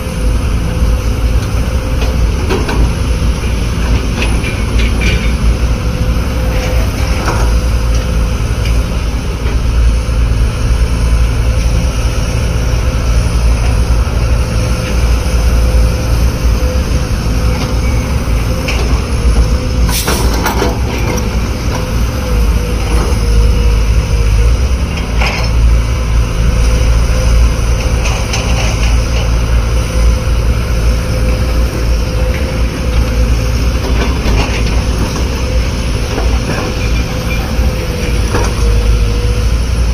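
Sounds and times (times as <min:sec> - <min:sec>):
construction machine engine rumbling: 0:00.0 - 0:39.9.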